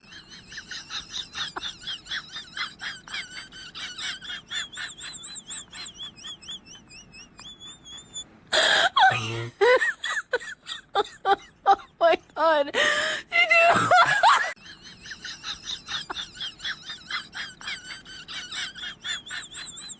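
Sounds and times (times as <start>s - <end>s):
high-pitched laugh-like voice: 0.0s - 19.9s.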